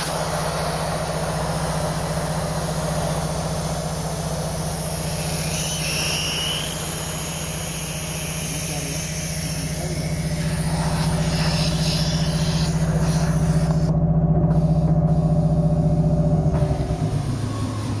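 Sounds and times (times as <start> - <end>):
electric motor humming: 0.0 - 18.0.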